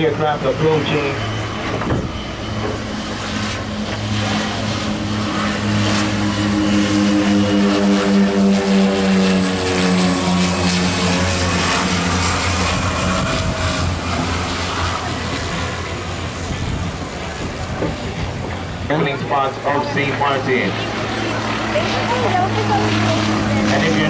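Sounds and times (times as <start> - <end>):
airplane engines droning: 0.0 - 24.0.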